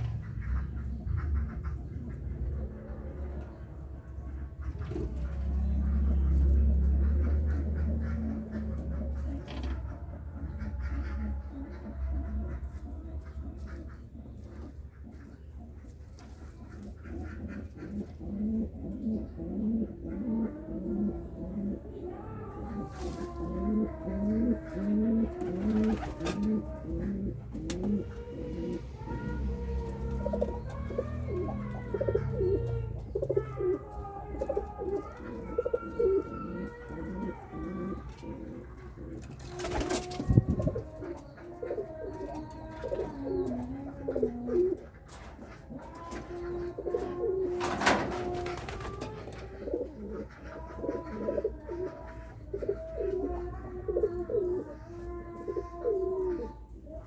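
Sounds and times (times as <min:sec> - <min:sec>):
pigeons cooing: 0:00.0 - 0:57.0.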